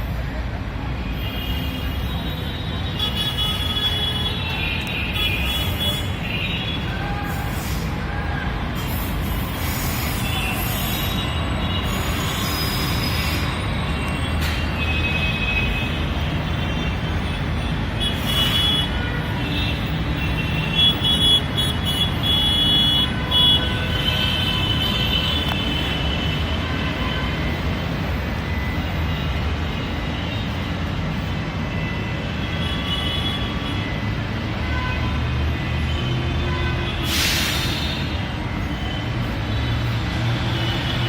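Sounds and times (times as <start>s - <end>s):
rumble of passing vehicles: 0.0s - 41.0s.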